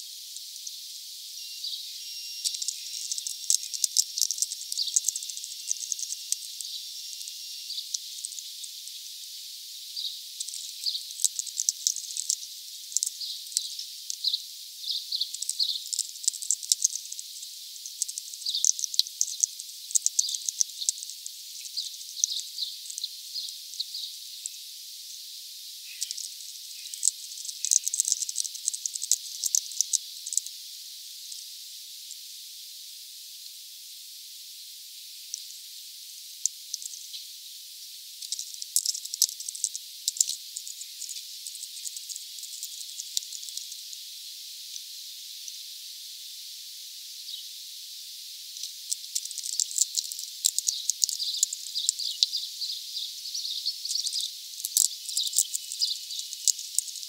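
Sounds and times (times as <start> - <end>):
steady hiss: 0.0 - 57.0
small birds chirping: 0.3 - 30.5, 36.4 - 37.4, 38.2 - 45.6, 47.2 - 47.6, 48.5 - 57.0.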